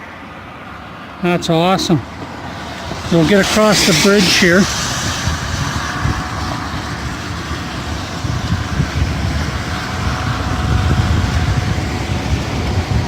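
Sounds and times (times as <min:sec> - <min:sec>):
traffic tyre hiss on wet road: 0:00.0 - 0:13.0
wind buffeting microphone: 0:00.8 - 0:13.0.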